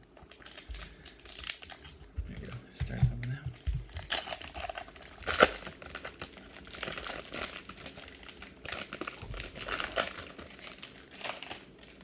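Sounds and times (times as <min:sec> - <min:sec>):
wrapper crinkling: 0:00.0 - 0:12.0.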